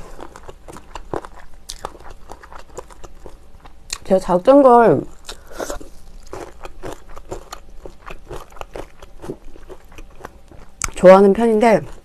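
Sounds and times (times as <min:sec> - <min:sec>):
person chewing crunchy food: 0:00.0 - 0:04.1, 0:05.1 - 0:11.0, 0:11.6 - 0:12.0.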